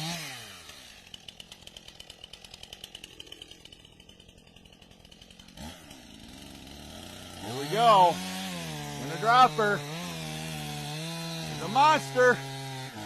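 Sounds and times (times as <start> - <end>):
chainsaw engine idling: 0.0 - 13.0.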